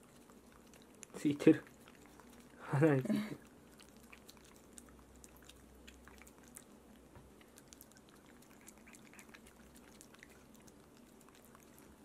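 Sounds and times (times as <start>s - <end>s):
puppy licking: 0.0s - 12.0s.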